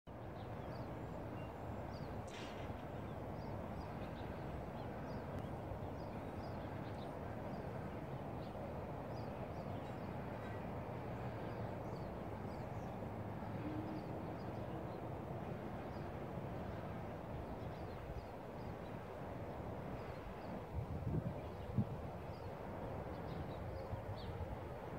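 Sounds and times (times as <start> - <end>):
low outdoor rumble: 0.1 - 24.9.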